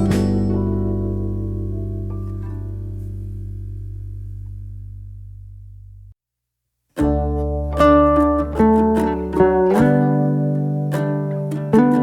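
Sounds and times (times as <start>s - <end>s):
plucked string instrumental music: 0.0s - 5.9s, 7.0s - 12.0s.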